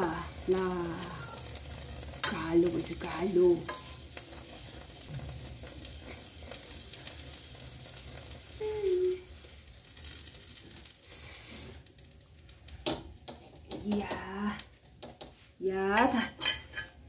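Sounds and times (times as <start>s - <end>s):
flatbread sizzling on griddle: 0.0s - 15.8s.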